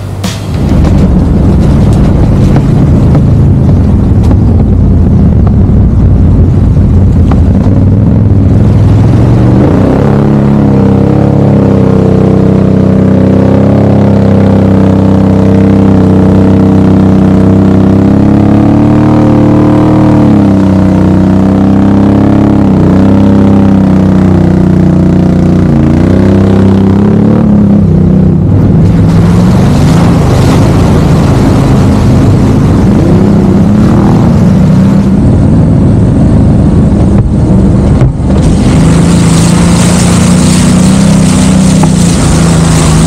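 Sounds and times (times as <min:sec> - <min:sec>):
off-road vehicle engine running: 0:00.0 - 0:43.0.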